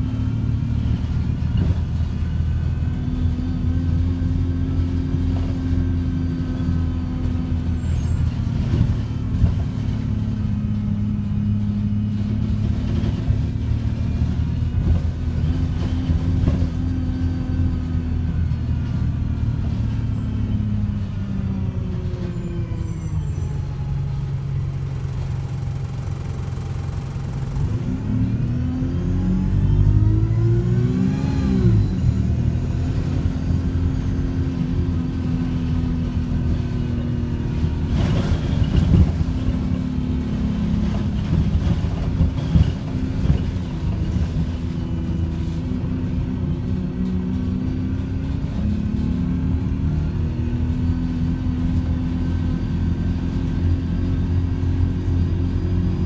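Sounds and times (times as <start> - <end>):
bus engine running: 0.0 - 56.0
bus body rattles: 0.3 - 22.5, 32.3 - 56.0.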